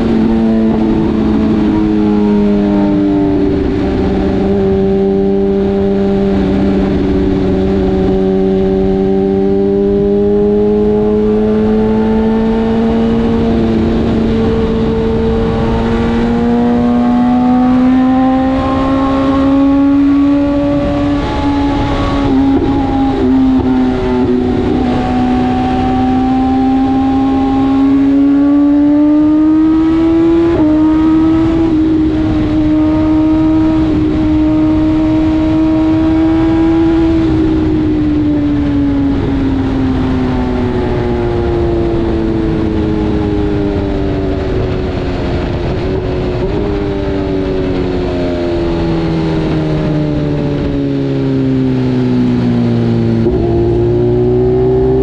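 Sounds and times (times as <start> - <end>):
motorcycle engine running: 0.0 - 55.0
wind and road noise rumble: 0.0 - 55.0.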